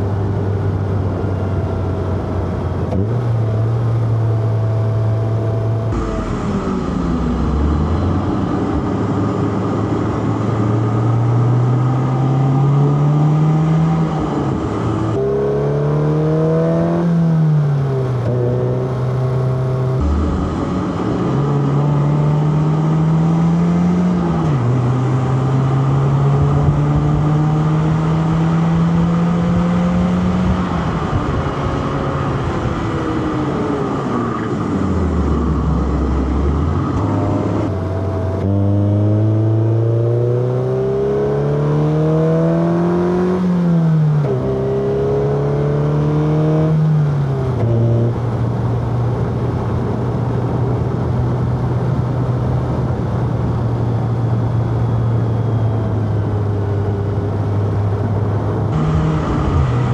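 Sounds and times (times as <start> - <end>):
car engine accelerating: 0.0 - 59.9
tyre and road noise: 0.0 - 59.9.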